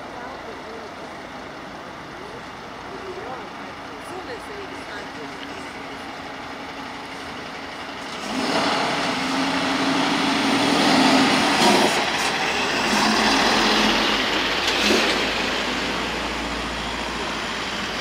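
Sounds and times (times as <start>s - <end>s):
diesel truck engine driving past: 0.0s - 18.0s.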